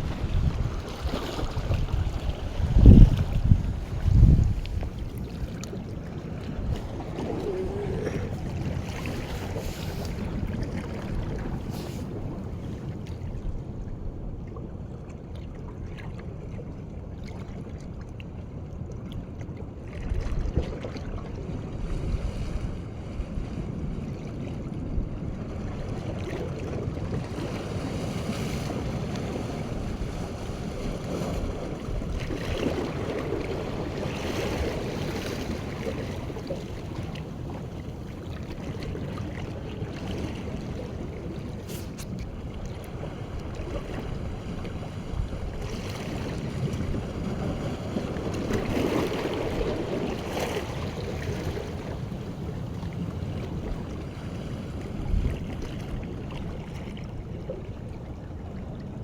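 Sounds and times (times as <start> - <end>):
waves washing on shore: 0.0 - 13.6, 21.5 - 56.3
wind buffeting microphone: 0.0 - 14.4, 21.4 - 57.4.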